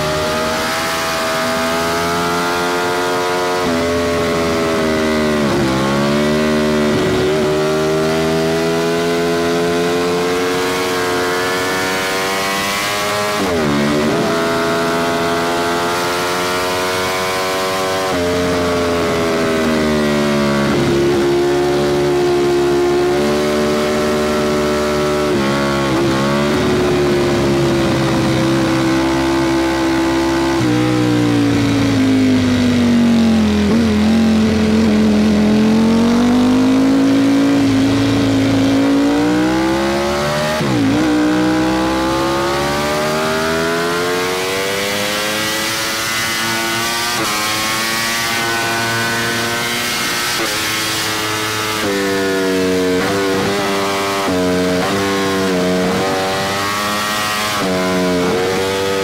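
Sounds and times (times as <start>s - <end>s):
motorcycle engine under way: 0.0s - 59.0s.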